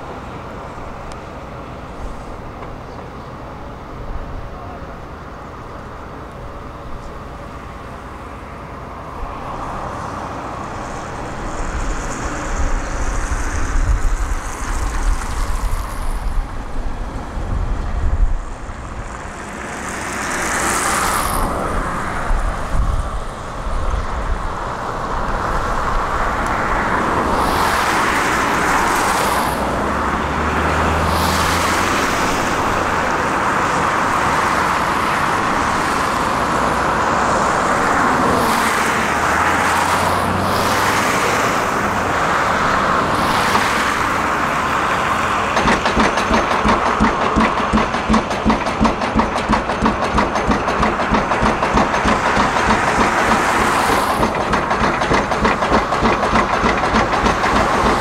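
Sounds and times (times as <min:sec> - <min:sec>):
vehicle engine and traffic noise: 0:00.0 - 0:58.0.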